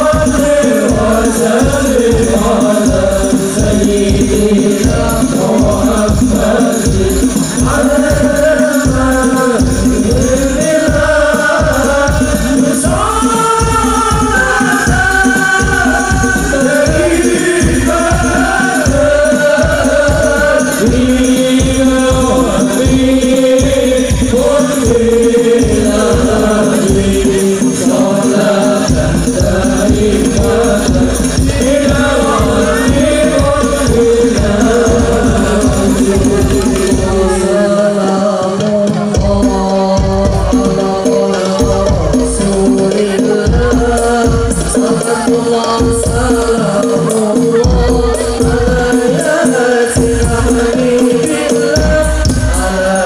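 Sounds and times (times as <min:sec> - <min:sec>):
frame drums beating: 0:00.0 - 0:53.0
jingling tambourine: 0:00.0 - 0:53.0
men singing in unison: 0:00.0 - 0:53.0.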